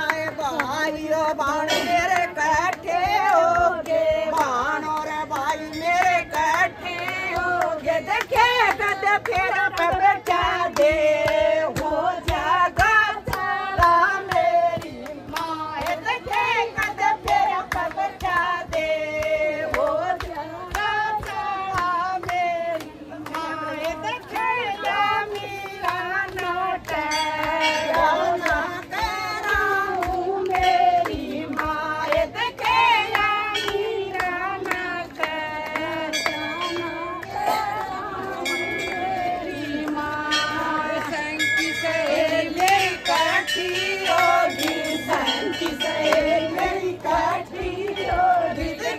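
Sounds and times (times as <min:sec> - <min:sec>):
hand-clapping in time: 0:00.0 - 0:48.9
women singing devotional song: 0:00.0 - 0:48.9.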